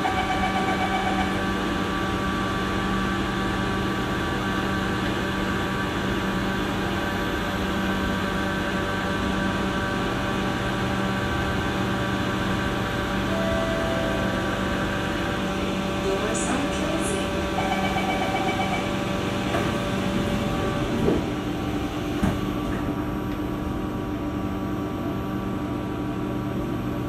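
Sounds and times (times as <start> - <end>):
train carriage equipment hum: 0.0 - 27.0.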